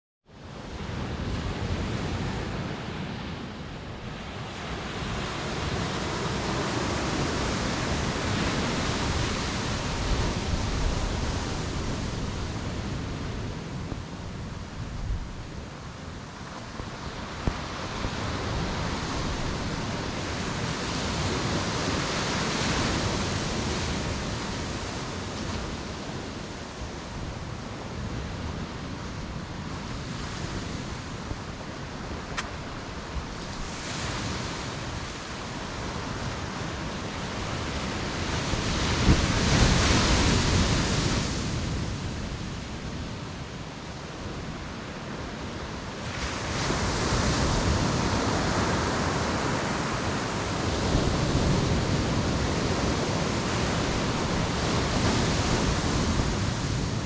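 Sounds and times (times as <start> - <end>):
ocean surf on a beach: 0.3 - 57.0.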